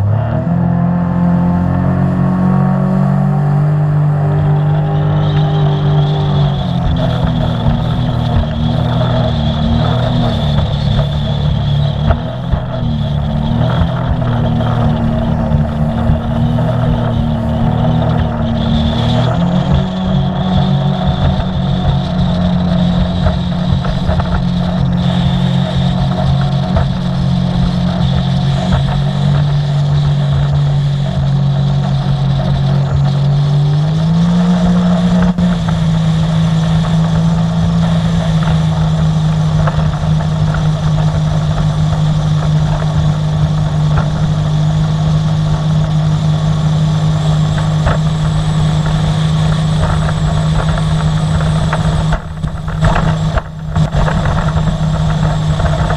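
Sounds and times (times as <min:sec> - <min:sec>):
personal watercraft engine running: 0:00.0 - 0:55.9.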